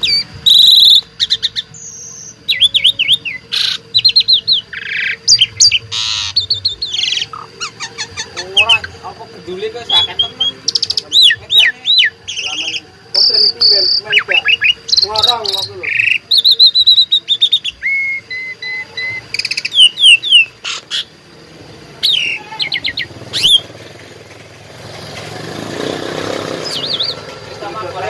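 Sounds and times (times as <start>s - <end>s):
starling singing: 0.0s - 28.0s.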